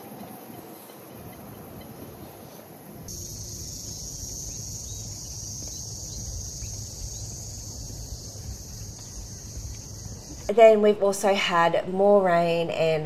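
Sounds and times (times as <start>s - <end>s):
high-pitched insect drone: 0.0s - 10.5s.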